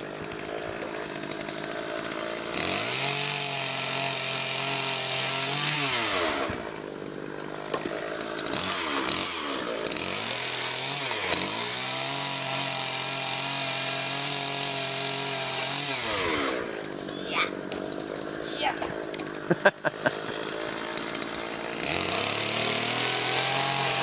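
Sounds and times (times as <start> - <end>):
chainsaw running with high whine: 0.0 - 24.0.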